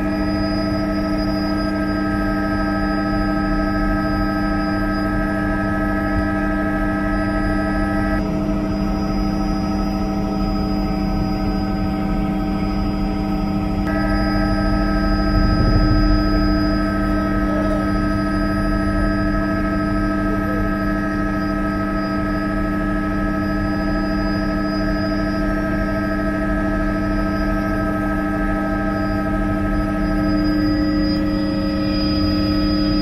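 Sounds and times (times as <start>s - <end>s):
low drone of helicopter rotor: 0.0s - 33.0s
turbine engine whine: 0.0s - 33.0s.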